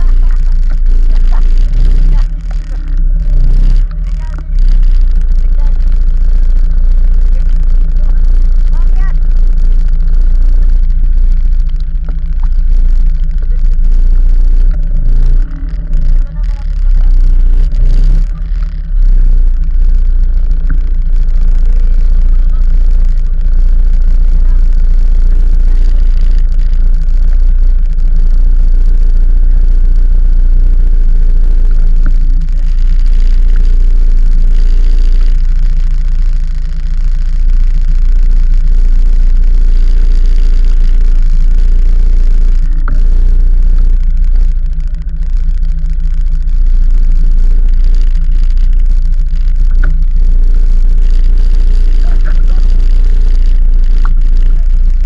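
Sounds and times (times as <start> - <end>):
vehicle low rumble: 0.0 - 55.0.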